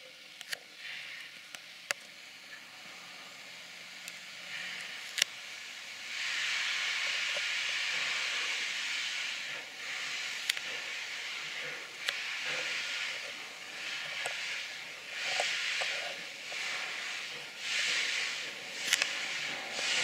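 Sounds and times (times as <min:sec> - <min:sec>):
steam locomotive hissing steam: 0:00.0 - 0:20.0.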